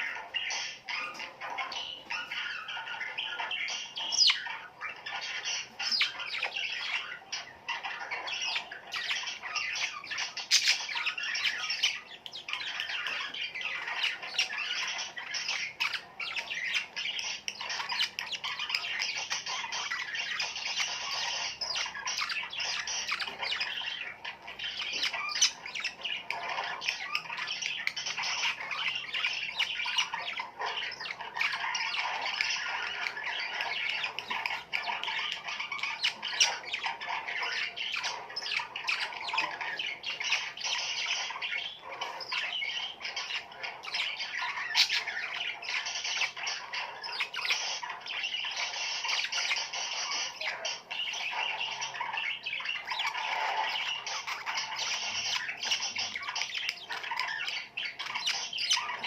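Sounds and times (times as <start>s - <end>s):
birds chirping and squawking: 0.0s - 59.0s.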